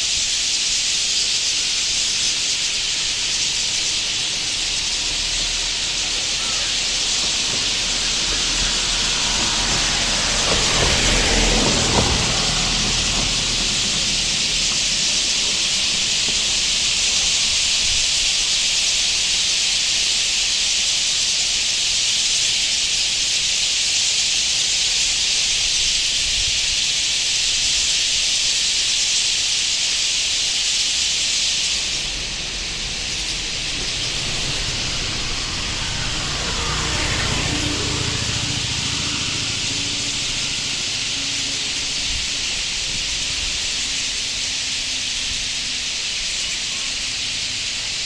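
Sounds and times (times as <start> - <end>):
steady high-pitched hiss: 0.0 - 48.0.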